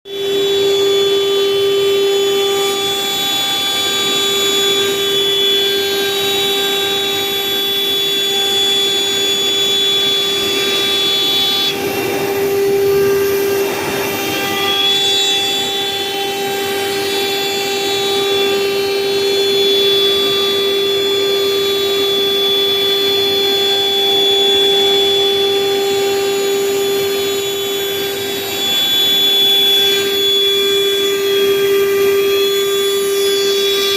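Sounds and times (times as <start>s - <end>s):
router spindle high whine: 0.0s - 33.9s
rushing cutting noise: 0.2s - 33.9s.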